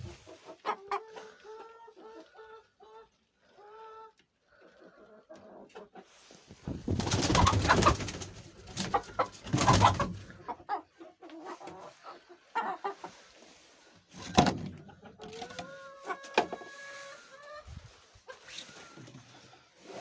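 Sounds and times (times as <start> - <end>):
chickens crooning and clucking: 0.0 - 20.0.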